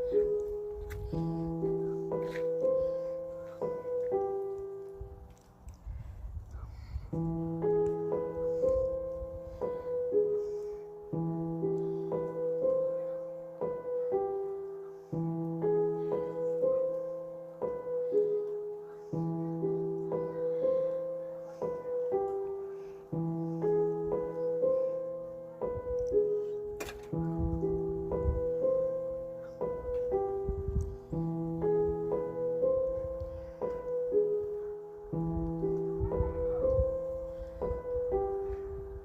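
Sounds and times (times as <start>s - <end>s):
piano melody: 0.0s - 39.0s.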